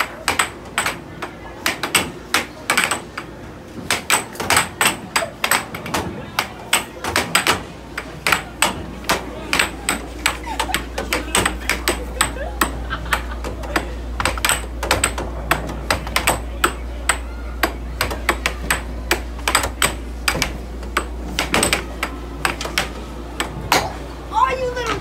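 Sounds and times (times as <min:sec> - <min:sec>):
air hockey puck clacking: 0:00.0 - 0:25.0
steady low hum: 0:00.0 - 0:25.0.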